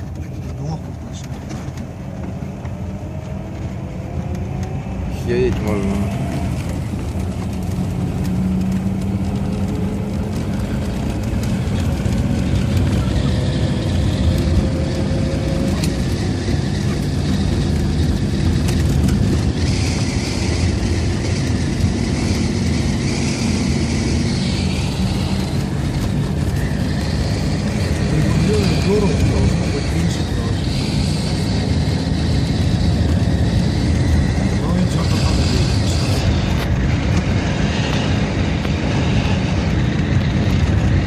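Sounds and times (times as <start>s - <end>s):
car engine under load: 0.0s - 41.0s
road and tyre noise: 0.0s - 41.0s.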